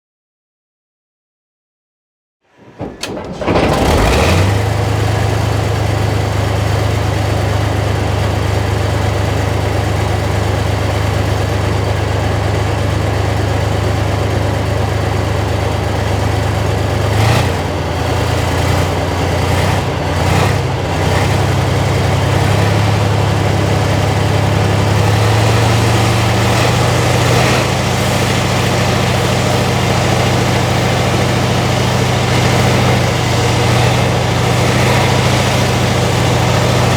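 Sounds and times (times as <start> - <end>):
diesel engine idling: 3.1 - 36.9.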